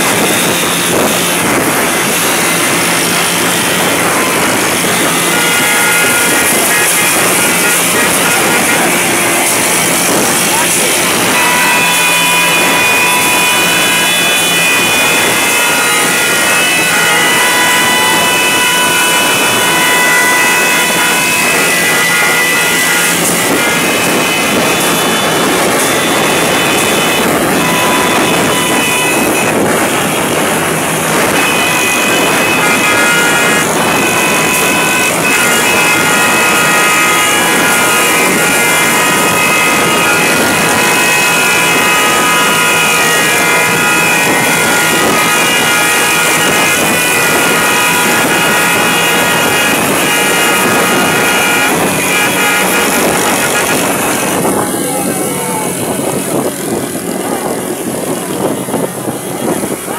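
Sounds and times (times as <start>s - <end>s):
high-pitched tones: 0.0s - 59.9s
motorcycle engines at speed: 0.0s - 59.9s
wind noise: 0.0s - 59.9s.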